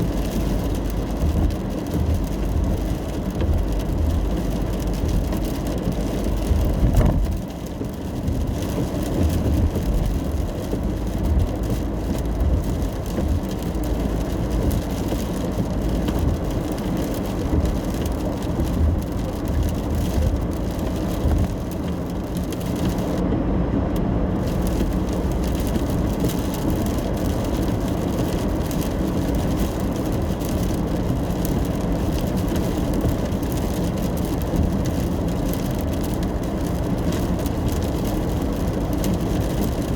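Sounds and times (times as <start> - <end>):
faint rain: 0.0 - 39.9
tyre and engine rumble: 0.0 - 39.9.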